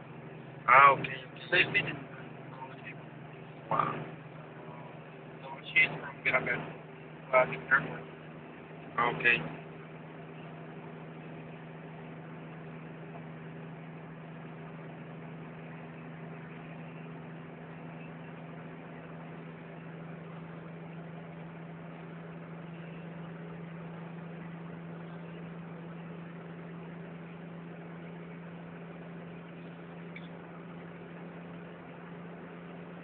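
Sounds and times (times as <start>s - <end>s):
car engine hum: 0.0s - 33.0s
tyre and road noise: 0.0s - 33.0s.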